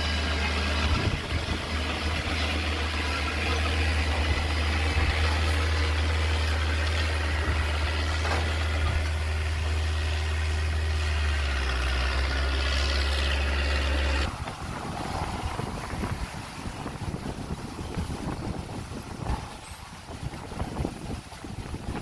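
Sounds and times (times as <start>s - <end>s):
faint rough rumble: 0.0s - 22.0s
heavy diesel engine at low revs: 0.0s - 22.0s.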